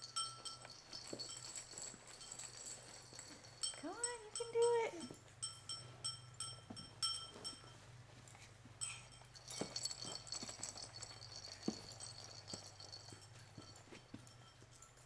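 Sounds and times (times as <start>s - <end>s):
metallic clinking and jingling: 0.0s - 15.0s.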